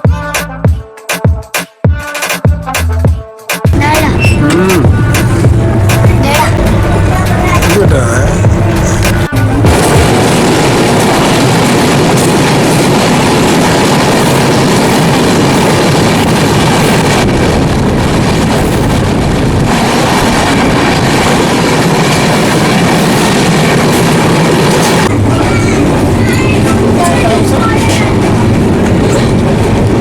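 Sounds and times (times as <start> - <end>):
train rolling on track: 3.7 - 30.0.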